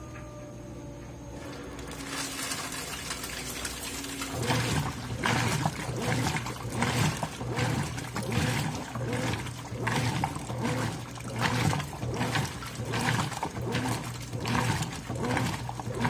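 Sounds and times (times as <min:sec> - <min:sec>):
motor hum: 0:00.0 - 0:16.0
washing machine agitator churning: 0:01.4 - 0:16.0
water sloshing: 0:01.4 - 0:16.0.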